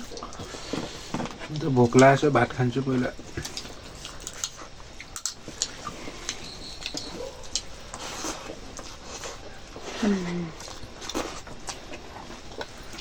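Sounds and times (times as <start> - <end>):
person chewing food: 0.0 - 2.2, 3.1 - 13.0.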